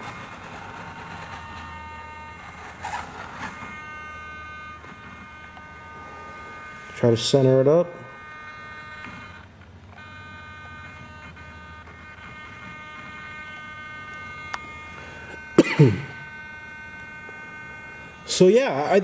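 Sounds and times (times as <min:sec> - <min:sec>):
high-pitched servo whine: 0:00.0 - 0:19.0.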